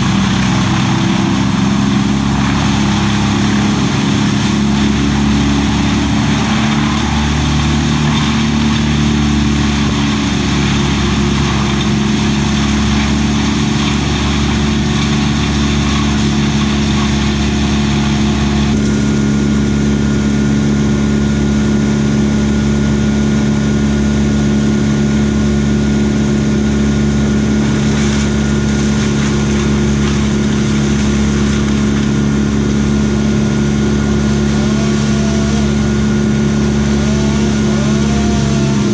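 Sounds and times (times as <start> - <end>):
motor engine running steadily: 0.0 - 38.9.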